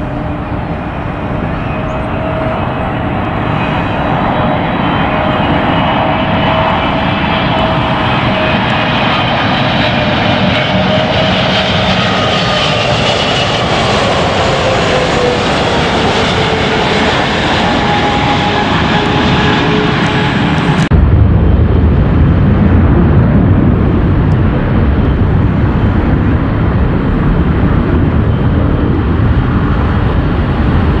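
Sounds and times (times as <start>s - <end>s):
jet aircraft roar passing: 0.0s - 31.0s.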